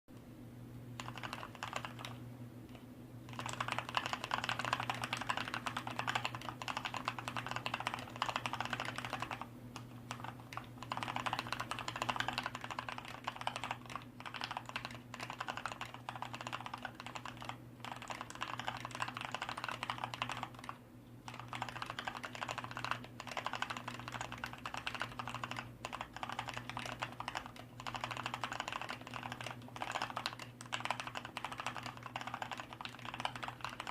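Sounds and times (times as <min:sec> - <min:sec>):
mechanical keyboard typing: 0:01.0 - 0:33.9.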